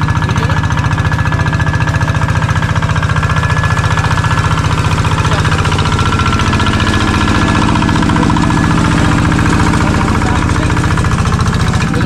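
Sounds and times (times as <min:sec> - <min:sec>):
diesel engine chugging: 0:00.0 - 0:12.0.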